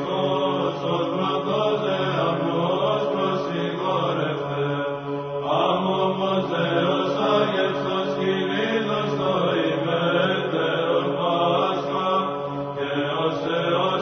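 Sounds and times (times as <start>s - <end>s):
voices chanting slow melody: 0.0s - 14.0s.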